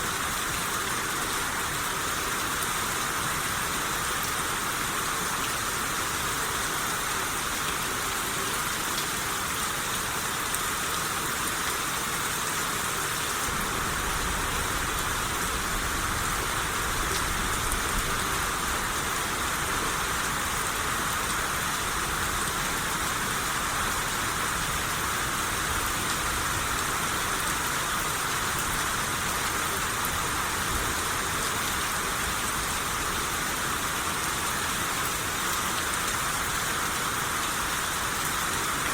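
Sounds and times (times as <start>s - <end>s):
rain patter: 0.0s - 38.9s.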